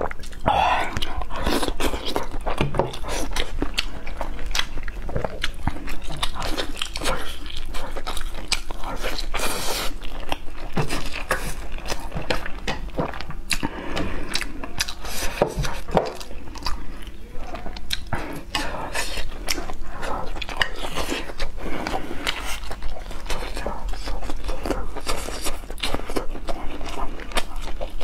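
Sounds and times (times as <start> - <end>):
close chewing: 0.0 - 28.0.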